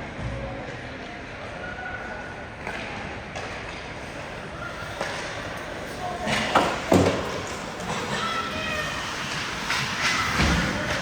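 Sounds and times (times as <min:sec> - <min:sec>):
rink background noise: 0:00.1 - 0:11.0
spectators' voices: 0:00.2 - 0:11.0.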